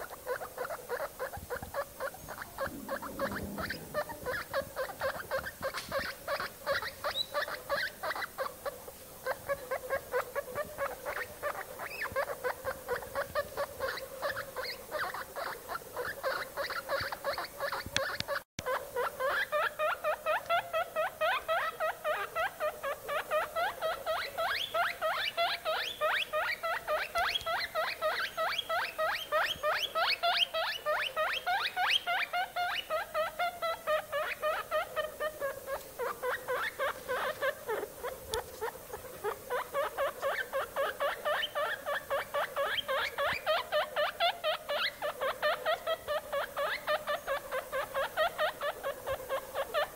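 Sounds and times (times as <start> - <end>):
guinea pig squeaking: 0.0 - 49.9.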